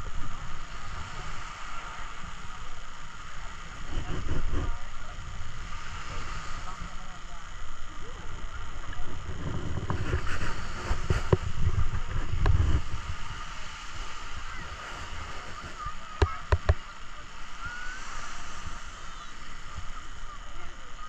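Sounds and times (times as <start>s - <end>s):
people chattering: 0.0s - 21.0s
waves washing: 0.0s - 21.0s
wind rumbling on microphone: 0.0s - 21.0s.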